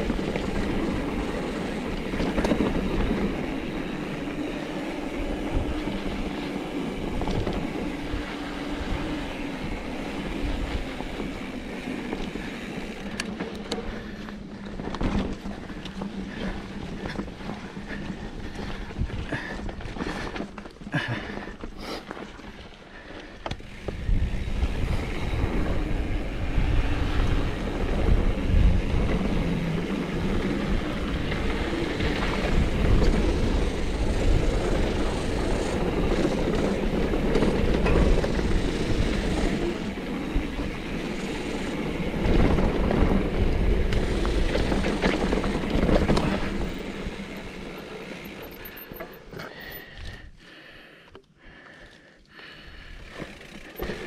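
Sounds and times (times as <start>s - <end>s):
bike tyres rattling over dirt: 0.0s - 50.3s, 52.4s - 54.0s.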